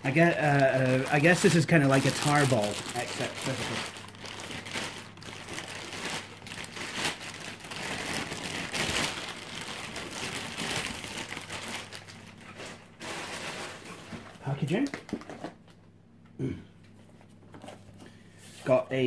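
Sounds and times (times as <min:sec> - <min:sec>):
packing material crinkling: 0:00.0 - 0:15.4.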